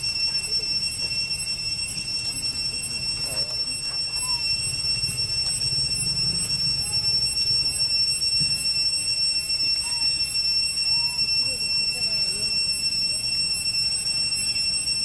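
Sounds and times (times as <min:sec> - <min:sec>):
high-pitched whine: 0:00.0 - 0:15.0.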